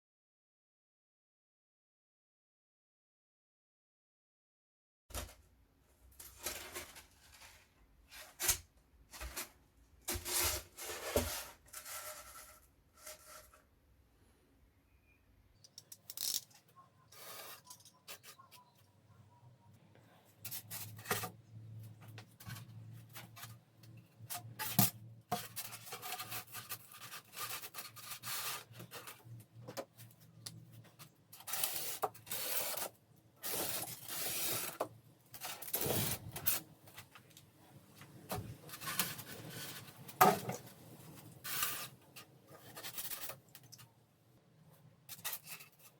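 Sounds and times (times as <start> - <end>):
rubbing and scraping craft materials: 6.0 - 13.7, 15.9 - 44.0, 44.6 - 45.9.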